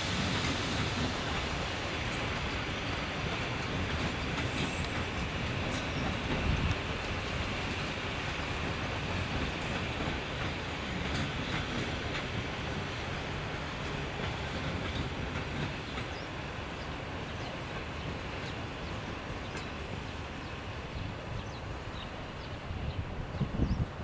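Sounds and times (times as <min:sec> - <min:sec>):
train wheel clacks: 0:00.0 - 0:20.6
train rumbling: 0:00.0 - 0:24.0.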